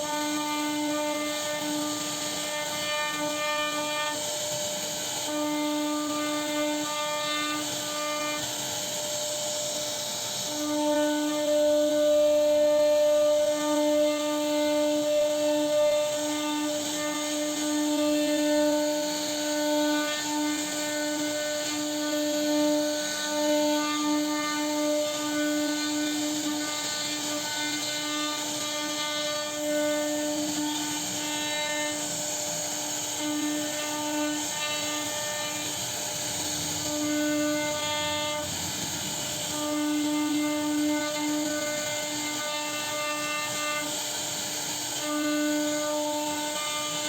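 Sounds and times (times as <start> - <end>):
router spindle whining cutting wood: 0.0 - 47.0.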